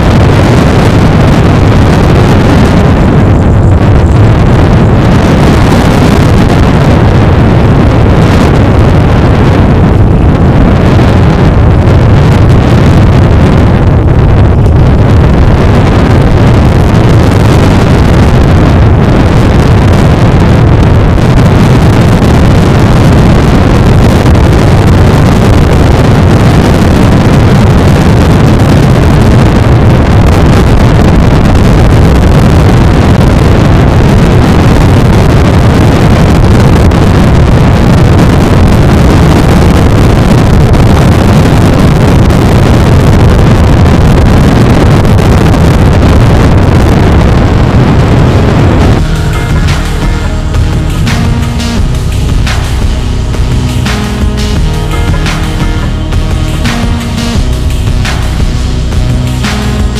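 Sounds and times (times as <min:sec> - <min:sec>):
turboprop engine running: 0:00.0 - 0:59.9
wind buffeting microphone: 0:00.0 - 0:59.9.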